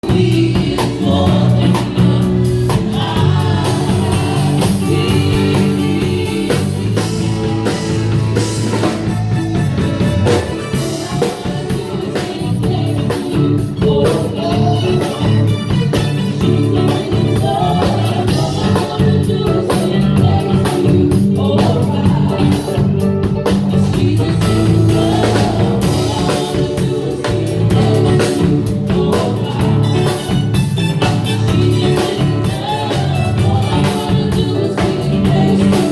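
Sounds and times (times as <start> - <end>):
band playing gospel song: 0.0 - 35.9
person singing: 0.0 - 35.9.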